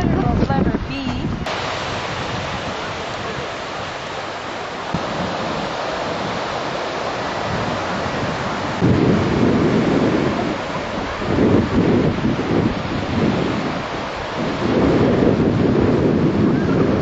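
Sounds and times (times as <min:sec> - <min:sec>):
waves breaking on shore: 0:00.0 - 0:17.0
wind buffeting microphone: 0:00.0 - 0:17.0.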